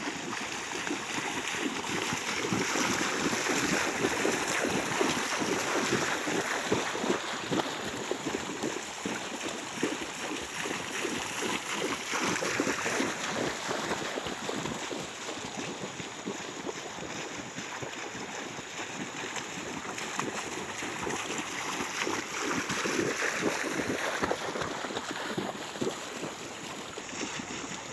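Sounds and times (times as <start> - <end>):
feet splashing through water: 0.0 - 27.9.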